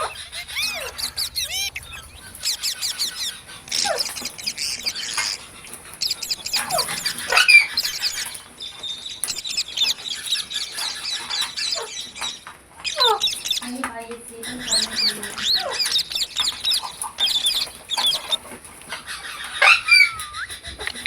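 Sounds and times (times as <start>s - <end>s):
parrots squawking and chirping: 0.0s - 21.0s.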